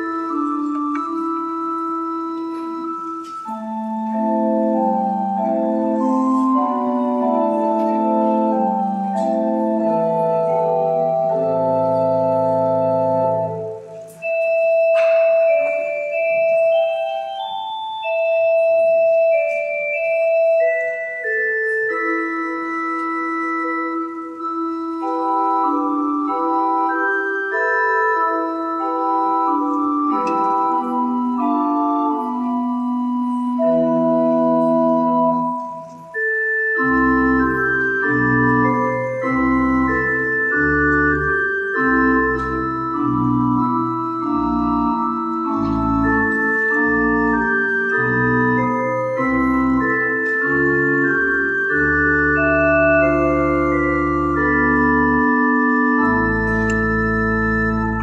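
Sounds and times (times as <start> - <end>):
organ playing slow chords: 0.0 - 58.0.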